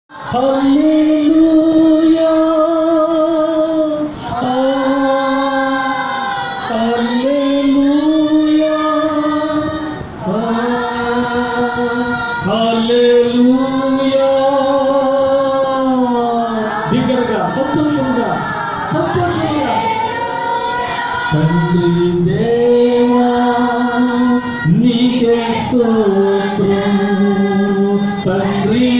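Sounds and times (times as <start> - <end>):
person singing worship song: 0.1 - 28.9.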